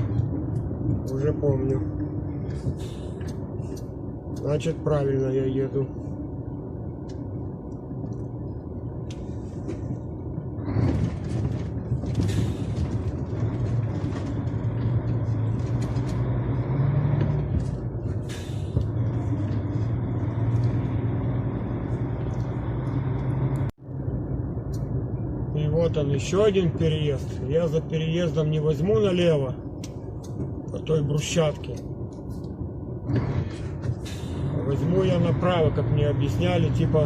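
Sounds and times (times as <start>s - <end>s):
diesel engine hum from cab: 0.0s - 37.0s.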